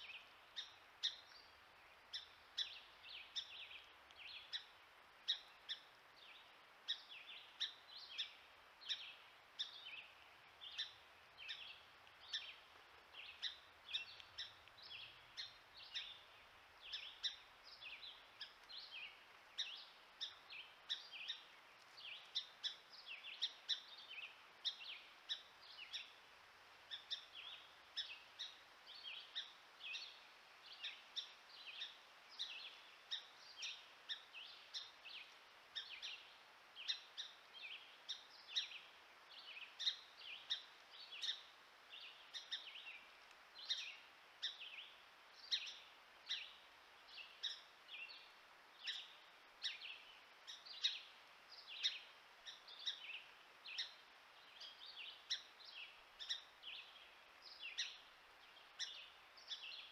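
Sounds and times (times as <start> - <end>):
faint hiss: 0.0 - 59.9
small birds chirping: 0.0 - 59.9.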